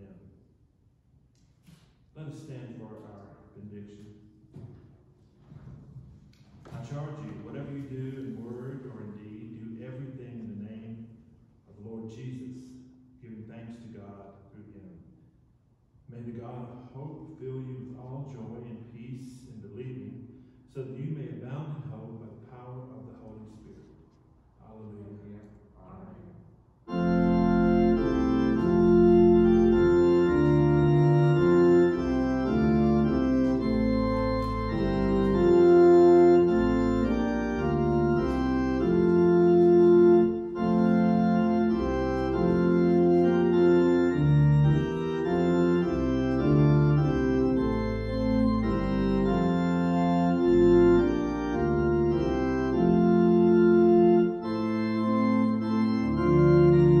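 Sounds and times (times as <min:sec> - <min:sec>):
church organ chords: 0:00.0 - 0:00.2, 0:02.2 - 0:04.7, 0:06.7 - 0:15.1, 0:16.1 - 0:23.8, 0:24.6 - 0:57.0.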